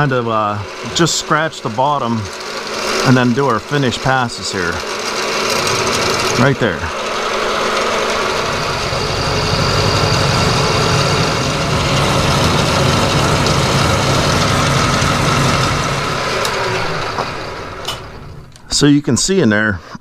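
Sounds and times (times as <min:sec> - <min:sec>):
milling machine drone: 0:00.0 - 0:19.0.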